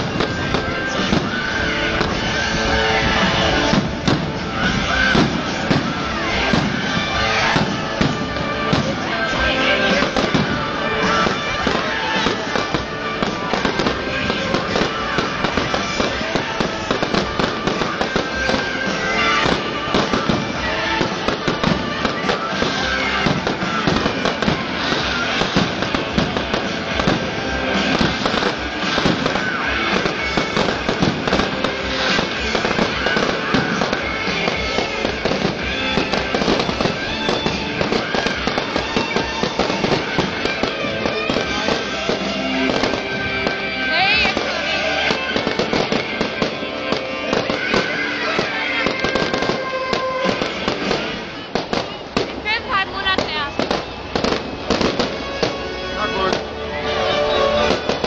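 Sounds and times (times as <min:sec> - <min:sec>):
fireworks bangs and crackles: 0:00.0 - 0:58.0
music playing: 0:00.0 - 0:58.0.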